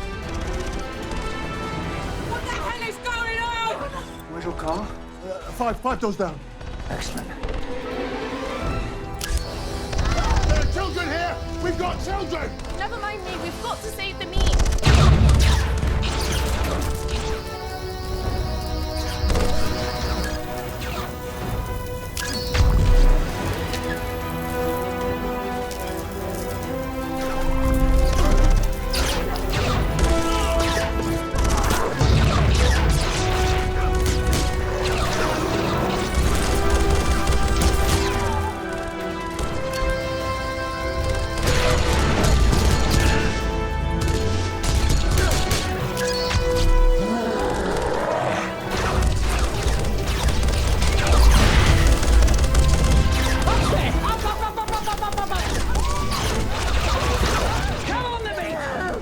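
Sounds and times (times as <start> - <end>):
dramatic score music: 0.0 - 59.0.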